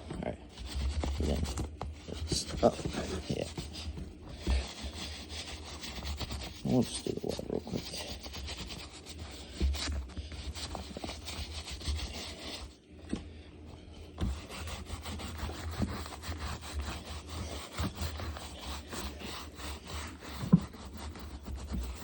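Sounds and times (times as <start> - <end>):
stiff brush scrubbing leather: 0.0 - 12.7, 14.2 - 22.0.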